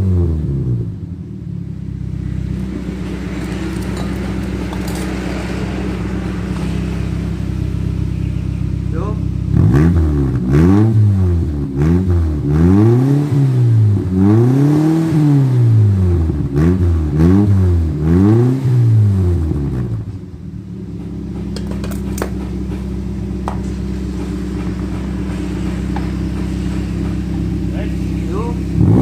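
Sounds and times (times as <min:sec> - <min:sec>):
car engine idling: 0:00.0 - 0:29.0
car engine revving: 0:00.0 - 0:29.0.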